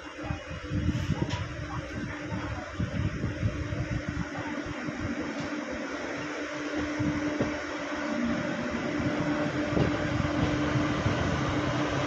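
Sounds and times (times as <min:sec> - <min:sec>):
freight wagons rumbling on rails: 0:00.0 - 0:12.0
locomotive electrical hum: 0:00.0 - 0:12.0.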